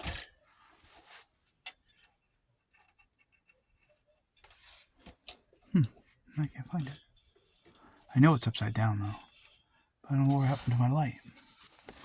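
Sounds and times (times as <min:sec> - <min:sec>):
soft rustles: 0:00.4 - 0:12.0.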